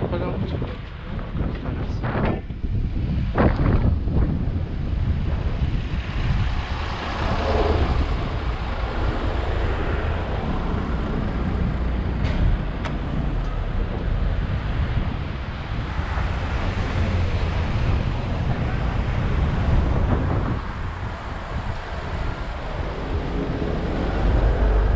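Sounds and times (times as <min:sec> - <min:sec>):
road traffic rumble: 0:00.0 - 0:24.9.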